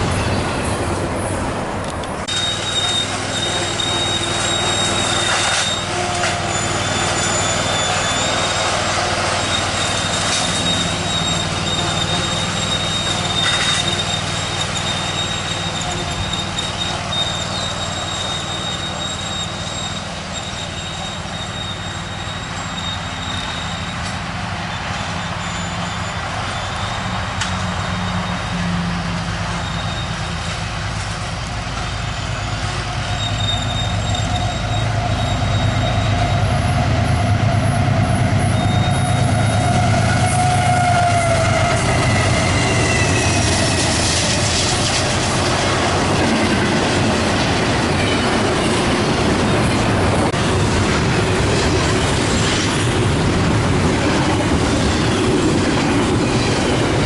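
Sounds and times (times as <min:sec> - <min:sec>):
rumble of train cars: 0:00.0 - 0:57.0
train wheels squealing: 0:02.2 - 0:50.4, 0:51.1 - 0:57.0.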